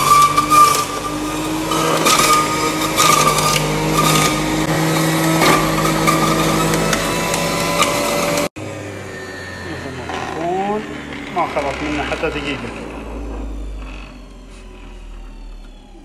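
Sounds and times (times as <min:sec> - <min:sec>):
juicer motor whining: 0:00.0 - 0:16.0.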